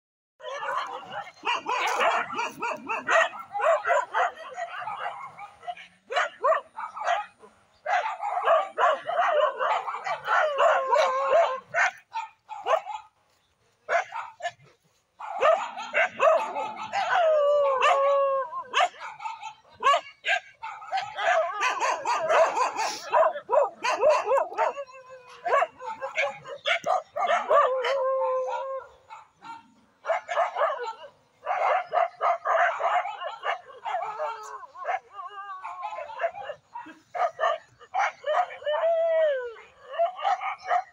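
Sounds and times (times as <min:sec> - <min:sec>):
dogs barking: 0:00.4 - 0:40.9.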